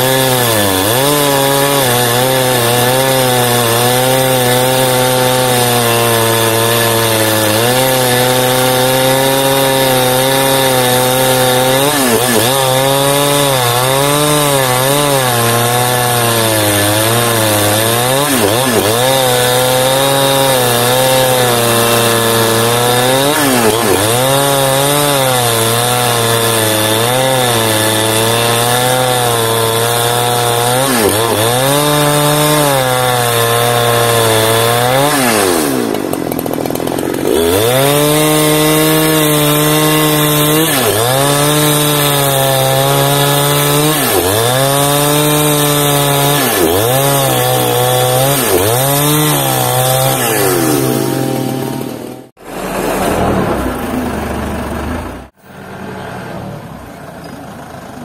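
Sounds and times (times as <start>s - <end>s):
chainsaw cutting a log: 0.0s - 55.4s.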